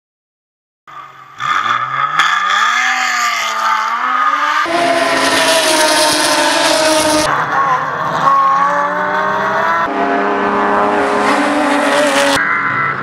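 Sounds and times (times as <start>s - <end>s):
race car engine accelerating: 1.4s - 13.0s.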